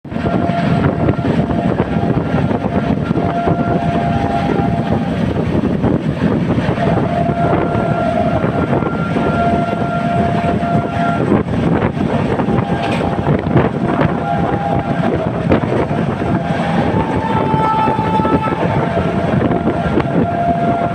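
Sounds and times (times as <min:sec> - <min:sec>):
train horn blasts: 0:00.1 - 0:06.0, 0:06.6 - 0:20.9
loud steady rushing noise: 0:00.1 - 0:20.9.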